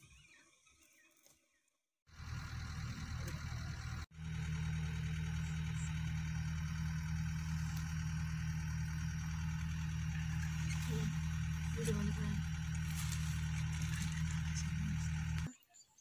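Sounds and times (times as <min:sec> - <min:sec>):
jeep engine idling: 0:02.1 - 0:15.5.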